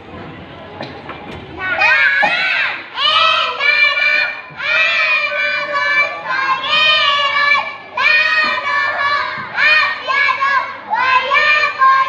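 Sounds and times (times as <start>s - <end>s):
children's choir singing: 1.5s - 12.0s.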